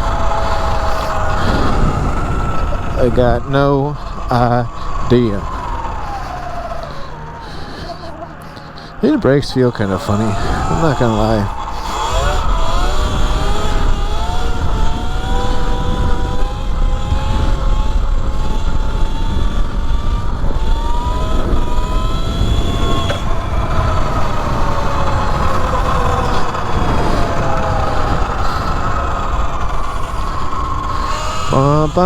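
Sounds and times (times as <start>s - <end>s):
electric motor whining: 0.0s - 32.0s
wind rumble on microphone: 0.0s - 32.0s.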